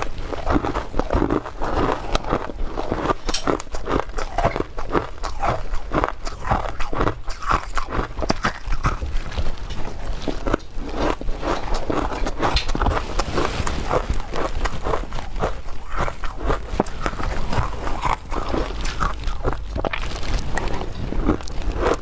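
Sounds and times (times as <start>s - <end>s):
ice crunching while chewed: 0.0s - 22.0s.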